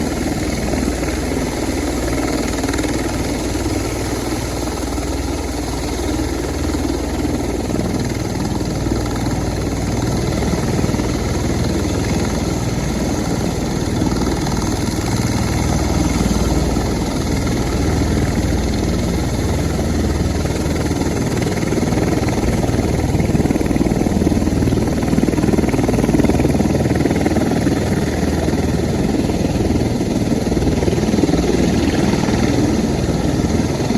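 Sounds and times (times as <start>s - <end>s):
aircraft engines droning: 0.0s - 33.9s.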